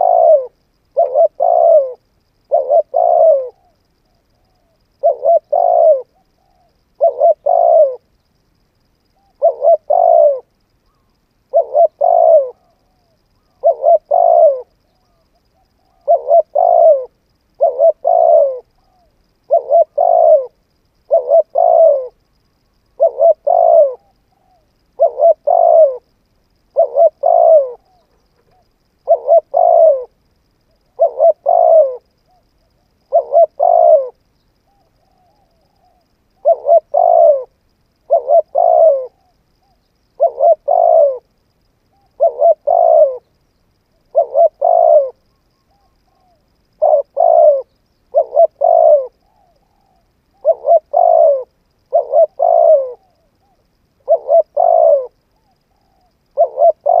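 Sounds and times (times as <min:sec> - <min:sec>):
dove cooing: 0:00.0 - 0:08.1, 0:09.0 - 0:41.3, 0:41.9 - 0:57.0.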